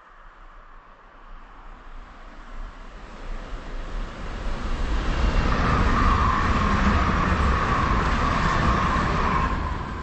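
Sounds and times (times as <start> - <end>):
high whine of train: 0.0 - 10.0
train passing at speed: 1.0 - 10.0.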